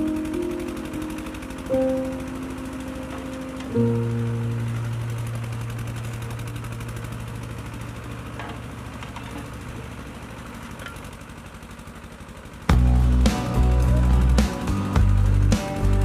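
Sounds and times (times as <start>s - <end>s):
mincing machine pulsing: 0.0s - 16.0s.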